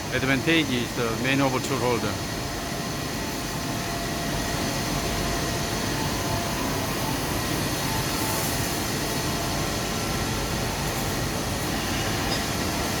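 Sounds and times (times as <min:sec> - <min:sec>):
machine whirring and rumbling: 0:00.0 - 0:13.0.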